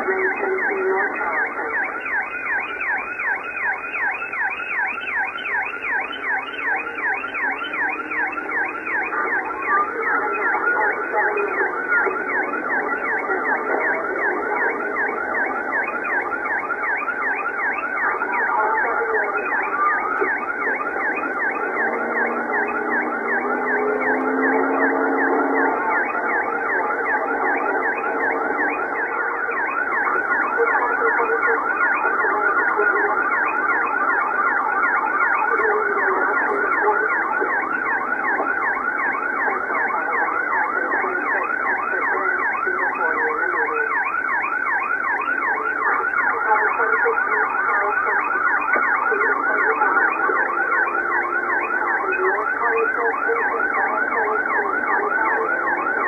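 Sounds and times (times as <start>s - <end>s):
police siren yelping: 0.0s - 56.0s.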